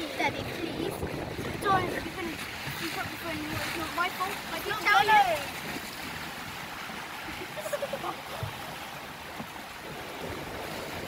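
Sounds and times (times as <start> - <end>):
water rushing around a boat: 0.0 - 11.0.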